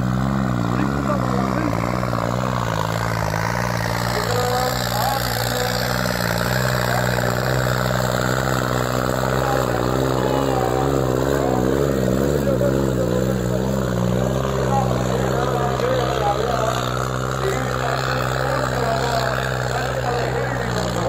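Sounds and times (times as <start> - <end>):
tractor engine running hard: 0.0 - 21.0.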